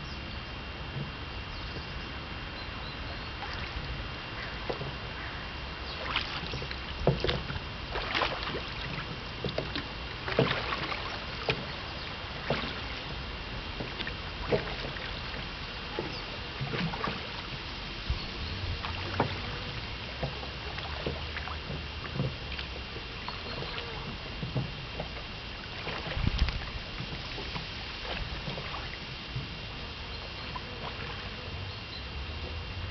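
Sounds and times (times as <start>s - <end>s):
faint steady hum: 0.0s - 32.9s
water splashing against boat hull: 3.1s - 32.9s.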